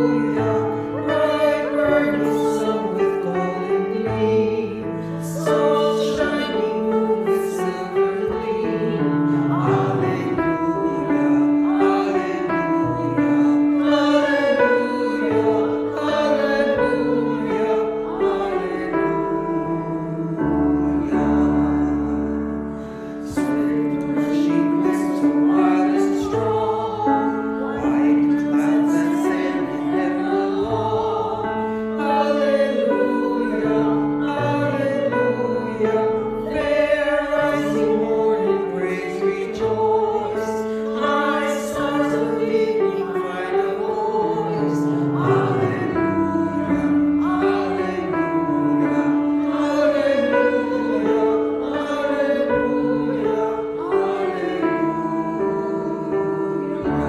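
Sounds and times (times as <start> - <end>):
group of voices singing slowly: 0.0 - 57.0.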